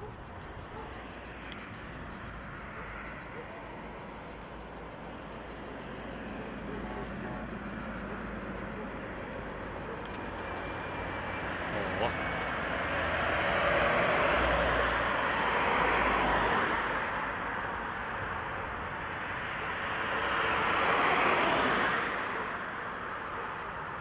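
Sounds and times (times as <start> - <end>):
road vehicles passing: 0.0 - 24.0.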